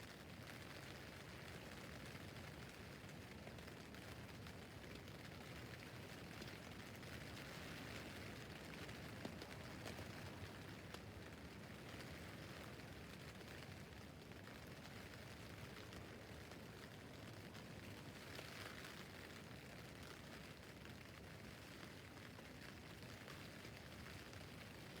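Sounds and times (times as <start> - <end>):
rain on a tent roof: 0.0 - 25.0.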